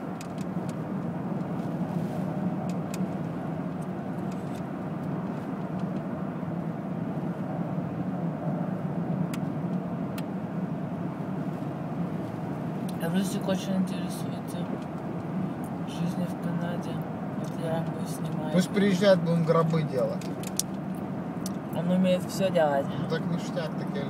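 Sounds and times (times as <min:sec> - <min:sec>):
car road noise on snow: 0:00.0 - 0:24.0.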